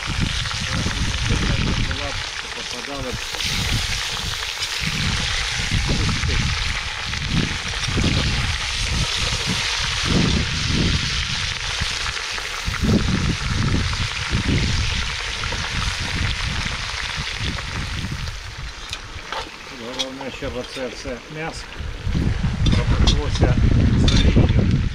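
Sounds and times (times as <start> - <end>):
low rumbling: 0.0 - 24.9
meat sizzling in oil: 0.0 - 24.9.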